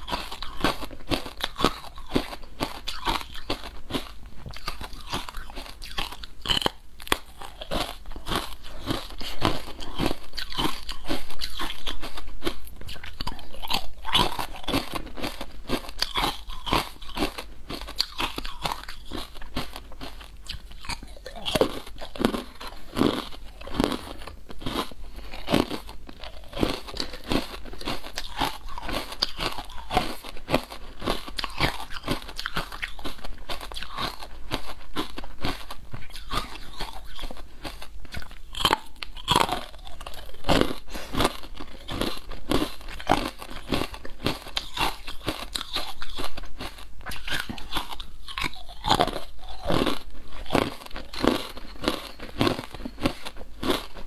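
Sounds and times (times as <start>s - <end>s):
crunchy sweets being chewed: 0.0s - 54.0s.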